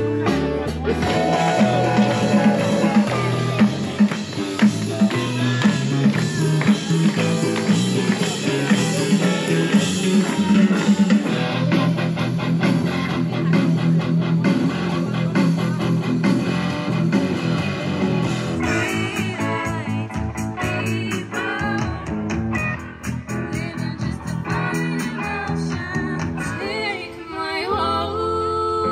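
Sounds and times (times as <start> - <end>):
person singing over guitar: 0.0 - 15.1, 17.3 - 28.9
live rock band playing: 0.0 - 27.2.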